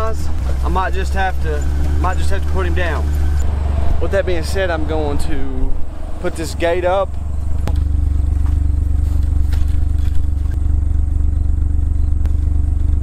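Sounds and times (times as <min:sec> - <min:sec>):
engine idling with low hum: 0:00.0 - 0:13.0.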